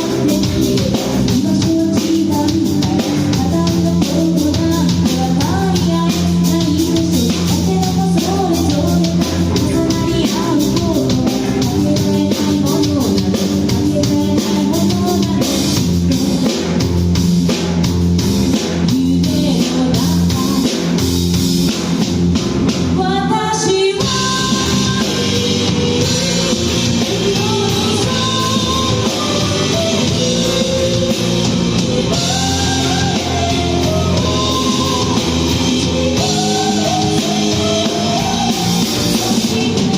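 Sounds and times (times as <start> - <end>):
person singing: 0.0 - 16.8, 18.8 - 21.0, 23.0 - 39.9
rock band playing: 0.0 - 39.9.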